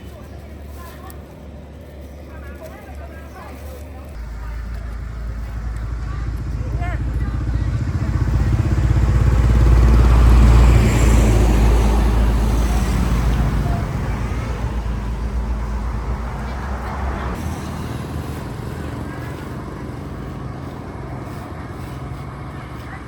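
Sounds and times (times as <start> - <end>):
vehicle engine moving away: 4.0 - 23.0.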